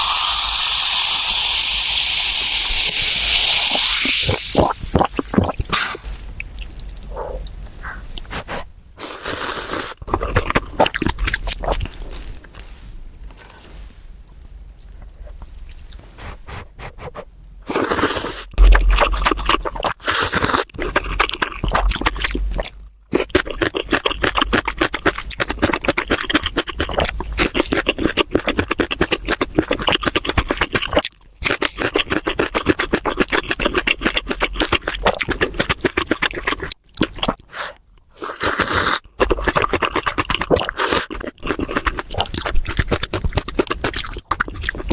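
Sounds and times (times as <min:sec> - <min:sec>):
wet chewing and crunching: 0:04.3 - 0:08.7, 0:09.3 - 0:16.4, 0:17.7 - 0:44.9.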